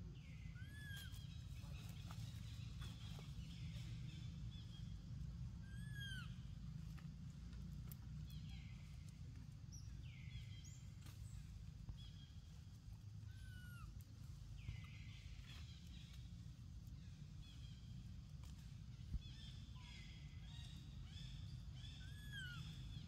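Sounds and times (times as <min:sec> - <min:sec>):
steady low rumble: 0:01.2 - 0:22.0.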